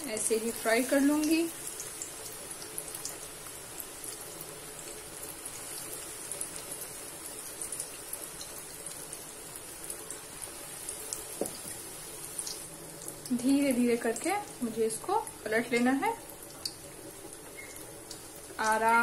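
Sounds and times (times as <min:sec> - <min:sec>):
food deep-frying in oil: 0:00.0 - 0:19.0.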